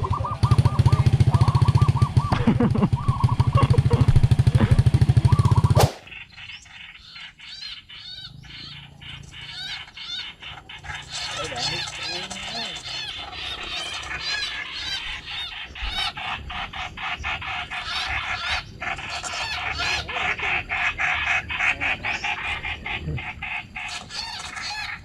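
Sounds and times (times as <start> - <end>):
flock of birds chattering: 0.0 - 25.0.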